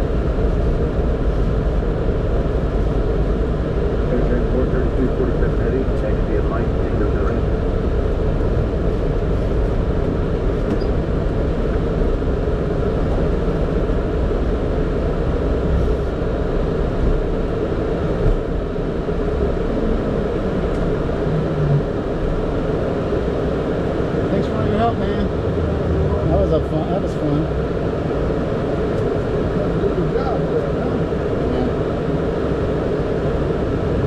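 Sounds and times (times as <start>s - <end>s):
engine and airflow rumble: 0.0s - 34.0s
faint steady hum: 0.0s - 34.0s.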